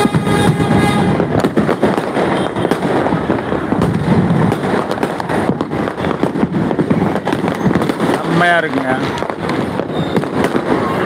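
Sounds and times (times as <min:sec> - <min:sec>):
fireworks and firecrackers banging: 0:00.0 - 0:11.0.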